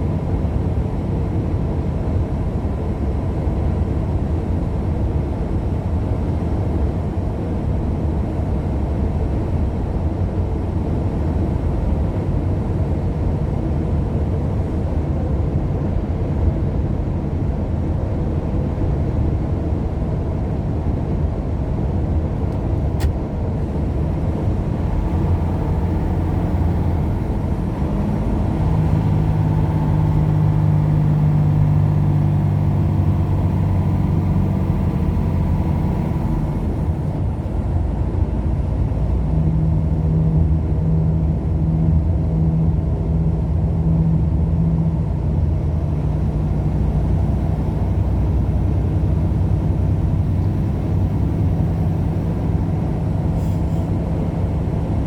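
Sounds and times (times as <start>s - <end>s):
vehicle road noise from inside: 0.0s - 55.0s.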